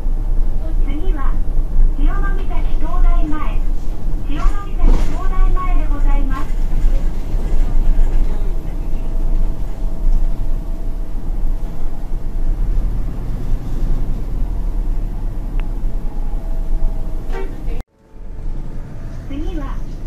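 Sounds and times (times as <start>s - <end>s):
bus engine rumble and road noise: 0.0s - 20.0s
thin steady whine: 0.0s - 20.0s.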